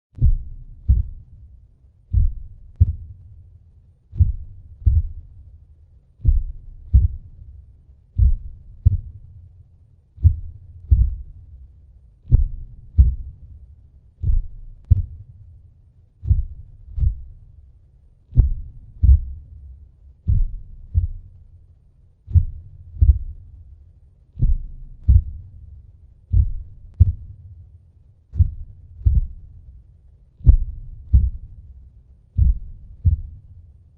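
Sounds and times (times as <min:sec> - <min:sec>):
slow deep heartbeat: 0:00.2 - 0:33.9.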